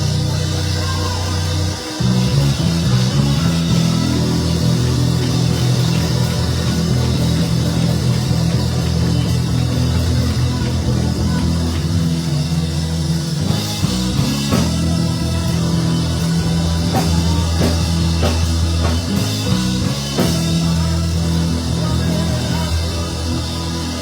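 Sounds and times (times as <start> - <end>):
band music: 0.0 - 24.0
drum and cymbal hits: 0.0 - 24.0.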